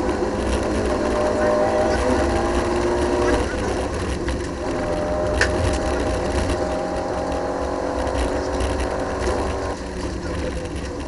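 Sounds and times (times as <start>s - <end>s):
rally car engine running: 0.0s - 11.0s
road noise rumble: 0.0s - 11.0s.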